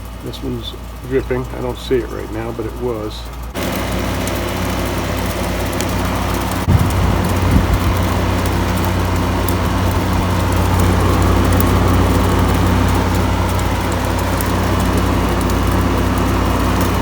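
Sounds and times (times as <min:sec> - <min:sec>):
air conditioners humming: 0:00.0 - 0:17.0.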